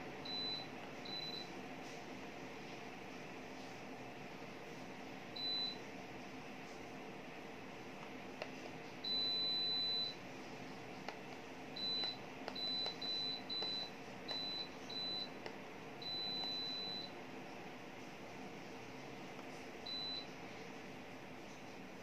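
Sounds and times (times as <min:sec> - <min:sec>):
air conditioner beeping: 0:00.0 - 0:22.0
air conditioner hum: 0:00.0 - 0:22.0.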